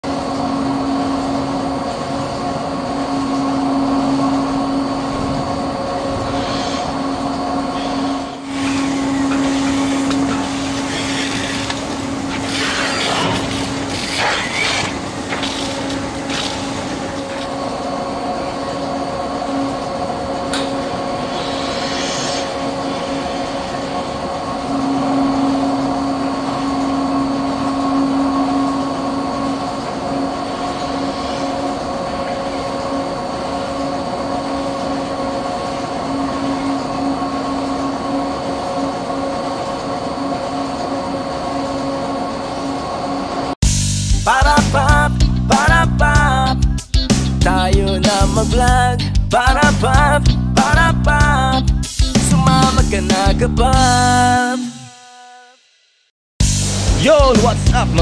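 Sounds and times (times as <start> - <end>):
milking machine hum: 0.0 - 43.6, 47.5 - 54.4.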